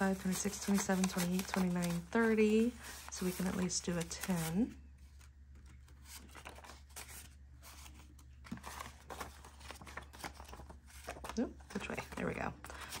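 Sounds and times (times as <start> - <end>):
banknotes rustling and flicking: 0.0 - 13.0.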